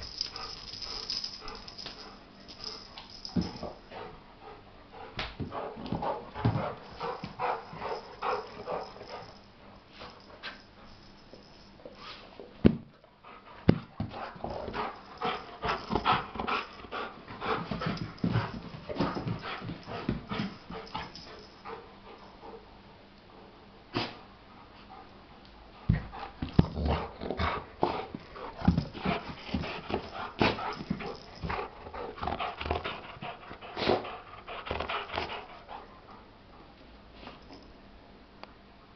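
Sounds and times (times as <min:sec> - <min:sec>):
dogs playing: 0:00.0 - 0:12.5, 0:13.2 - 0:22.8, 0:23.4 - 0:37.8.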